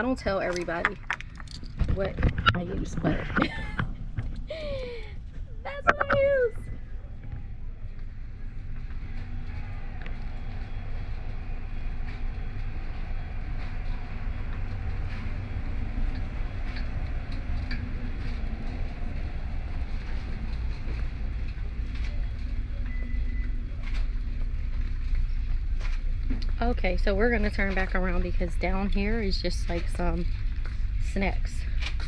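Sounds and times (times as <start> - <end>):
faint hum: 0.0 - 32.0
steady low rumble: 0.0 - 32.0.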